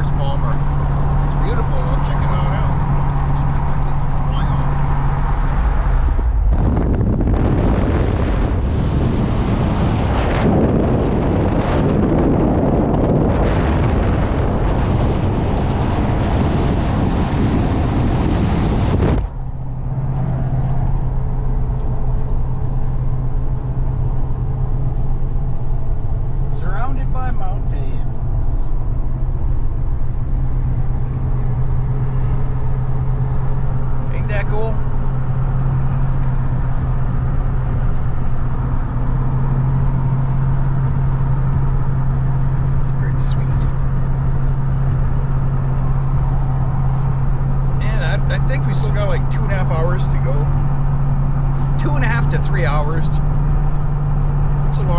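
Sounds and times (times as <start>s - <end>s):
steady drone with low hum: 0.0s - 54.9s
wind and road noise: 0.0s - 54.9s.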